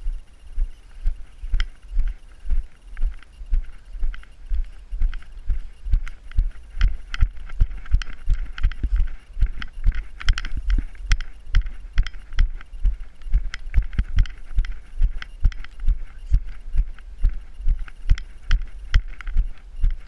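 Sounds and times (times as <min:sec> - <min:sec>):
heavy footsteps on grass: 0:00.0 - 0:20.0.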